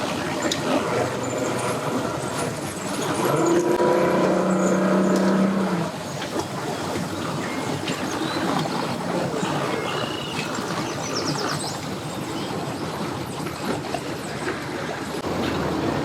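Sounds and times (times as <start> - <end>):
boat engines running: 0.0 - 14.2.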